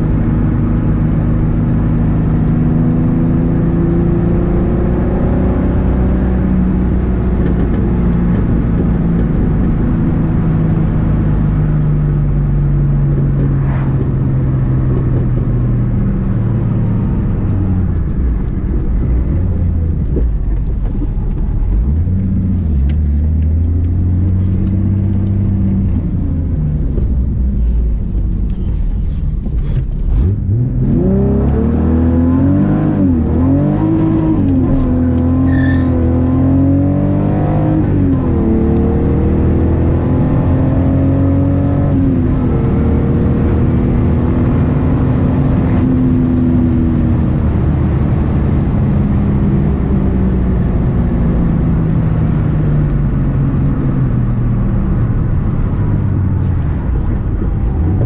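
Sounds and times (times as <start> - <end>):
car engine and exhaust from cabin: 0.0 - 58.0.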